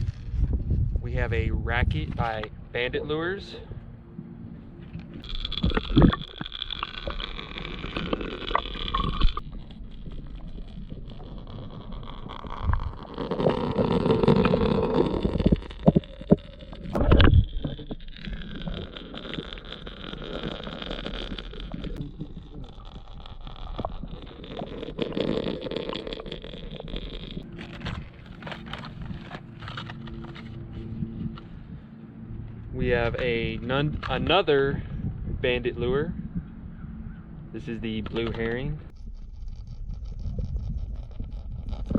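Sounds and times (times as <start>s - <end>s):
muffled underwater gurgling: 1.0s - 38.9s.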